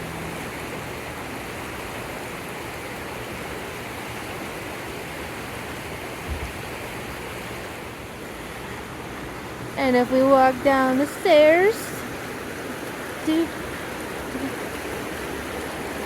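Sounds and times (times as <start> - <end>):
flooding river rushing: 0.0 - 16.0.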